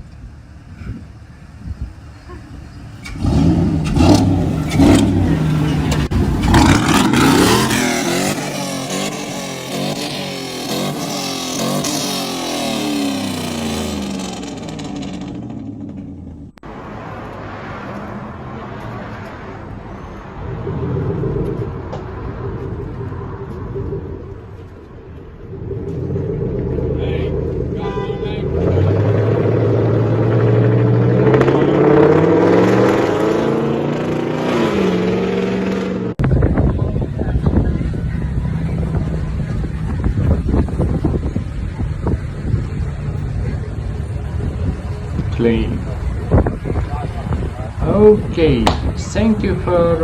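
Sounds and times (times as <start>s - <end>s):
quieter engine running: 0.0s - 50.0s
truck exhaust revving: 2.3s - 50.0s.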